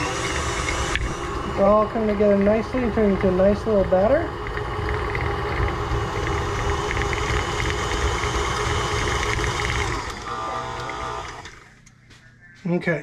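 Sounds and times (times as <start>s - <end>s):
electric mixer beating dough: 0.0s - 11.6s.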